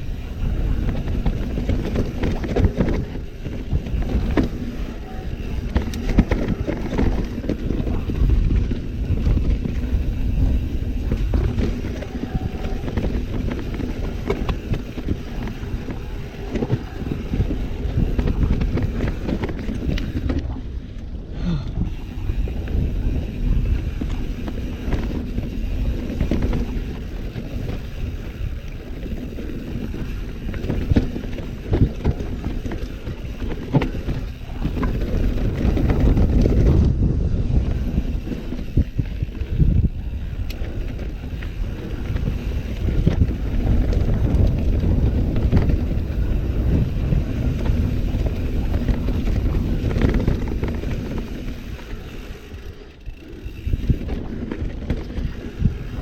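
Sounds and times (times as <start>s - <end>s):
bike knocks and rattles: 0.0s - 20.7s, 21.8s - 56.0s
tyres rumbling on dirt: 0.0s - 20.7s, 21.8s - 56.0s
wind buffeting microphone: 0.0s - 56.0s.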